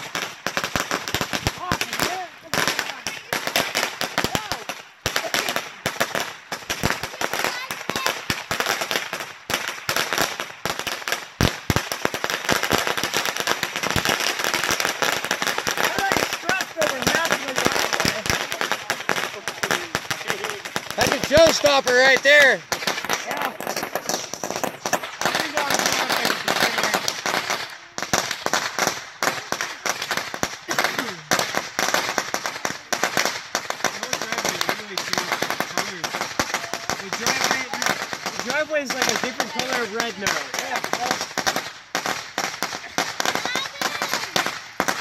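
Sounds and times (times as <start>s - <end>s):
firecrackers crackling: 0.0s - 45.0s.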